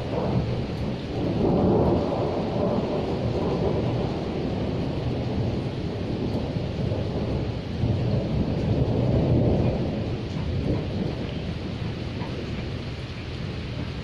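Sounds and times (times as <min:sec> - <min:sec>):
rolling thunder rumble: 0:00.0 - 0:14.0
steady rain: 0:00.0 - 0:14.0.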